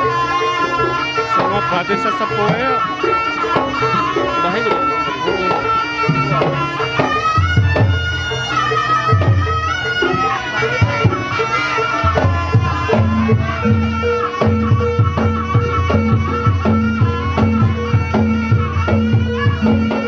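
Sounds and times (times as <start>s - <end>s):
drum strokes: 0.0s - 20.0s.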